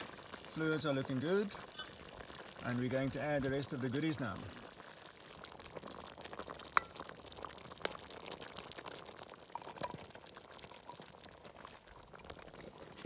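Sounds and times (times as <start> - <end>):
stew bubbling and popping: 0.0 - 13.0.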